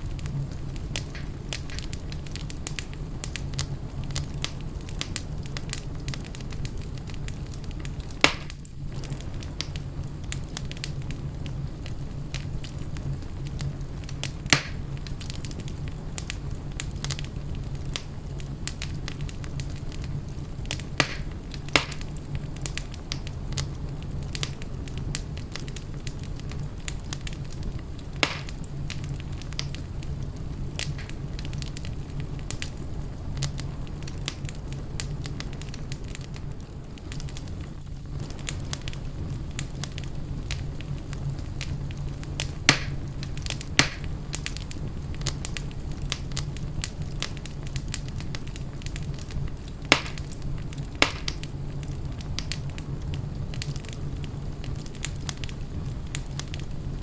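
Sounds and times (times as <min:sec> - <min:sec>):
low fire rumble: 0:00.0 - 0:57.0
wood fire crackling and popping: 0:00.0 - 0:57.0.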